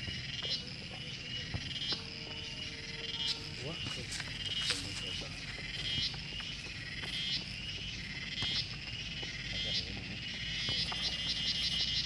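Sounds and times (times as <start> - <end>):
wild animal chirping calls: 0.0 - 12.0.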